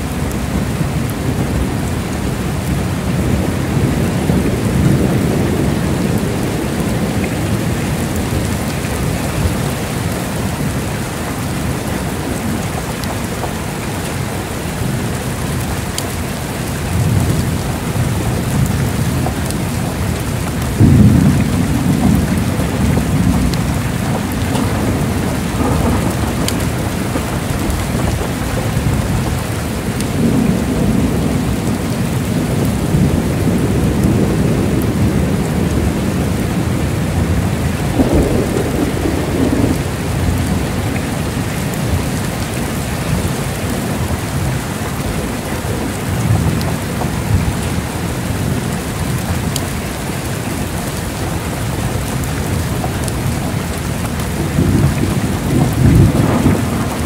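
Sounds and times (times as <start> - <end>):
heavy rain hissing: 0.0 - 57.0
thunder rumbling: 0.0 - 57.0.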